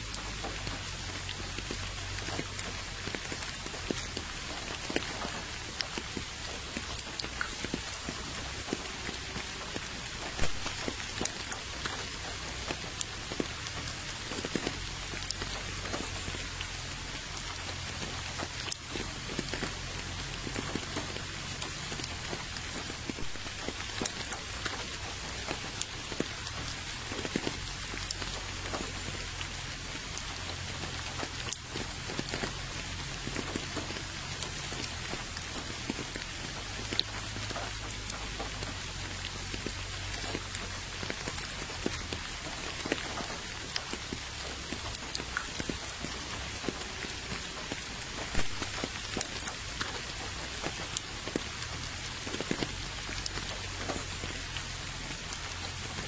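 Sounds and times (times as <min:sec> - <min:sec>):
rain falling on puddle and gravel: 0:00.0 - 0:56.0.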